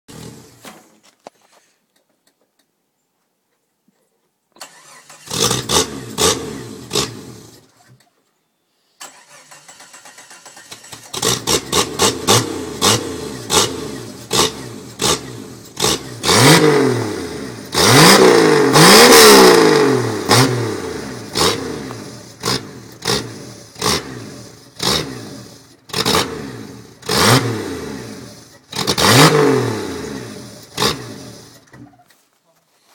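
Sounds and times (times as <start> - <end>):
diesel engine starting and revving: 0.1 - 0.9, 4.6 - 7.9, 9.0 - 32.0.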